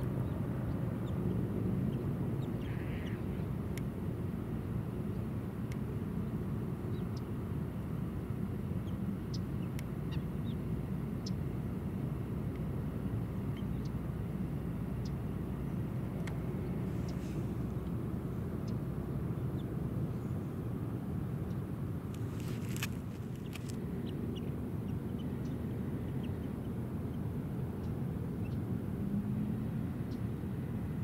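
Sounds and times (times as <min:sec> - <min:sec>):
distant traffic rumble: 0:00.0 - 0:31.0.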